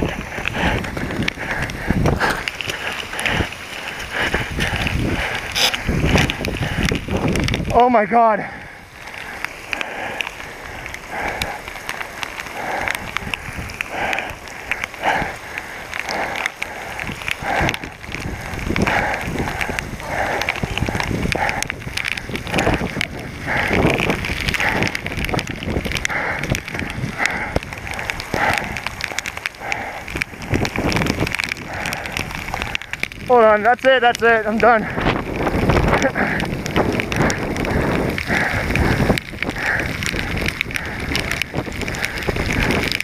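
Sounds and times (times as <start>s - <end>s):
heavy fast breathing: 0.0s - 33.6s, 34.3s - 43.0s
rain and wind hiss: 0.0s - 43.0s.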